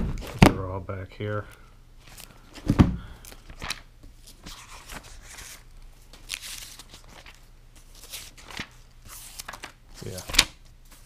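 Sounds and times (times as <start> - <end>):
paper pages rustling: 2.0 - 11.0.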